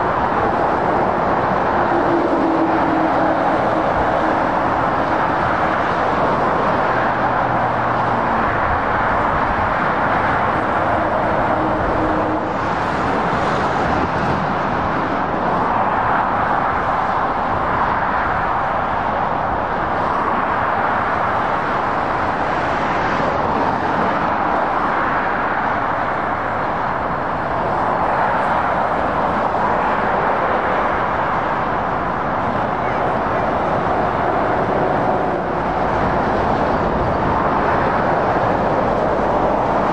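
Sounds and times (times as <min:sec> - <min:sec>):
motorway traffic roar: 0:00.0 - 0:39.9.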